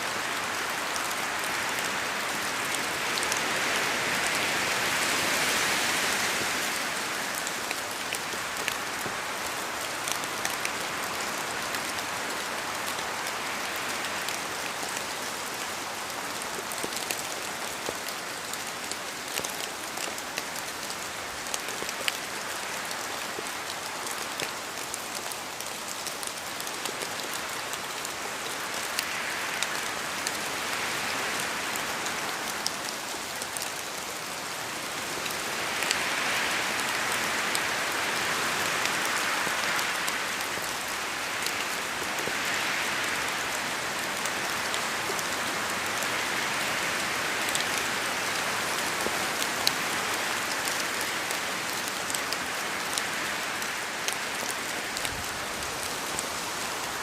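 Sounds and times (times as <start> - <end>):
rain hissing on leaves: 0.0 - 57.0.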